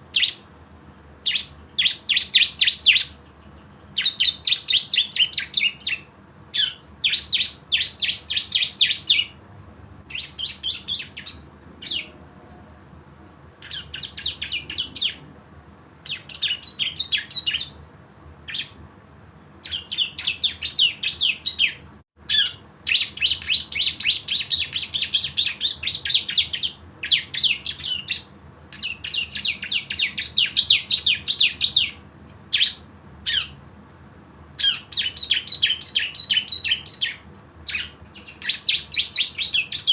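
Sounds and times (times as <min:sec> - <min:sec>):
bird singing rapid trill: 0:00.0 - 0:00.5, 0:01.2 - 0:09.4, 0:10.1 - 0:12.2, 0:13.6 - 0:15.3, 0:16.0 - 0:17.8, 0:18.4 - 0:18.8, 0:19.5 - 0:33.6, 0:34.6 - 0:39.9.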